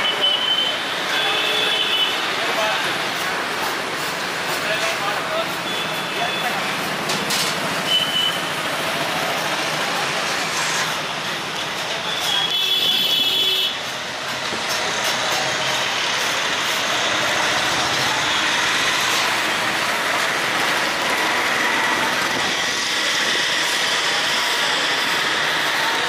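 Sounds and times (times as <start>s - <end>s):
busy street traffic: 0.0s - 26.0s.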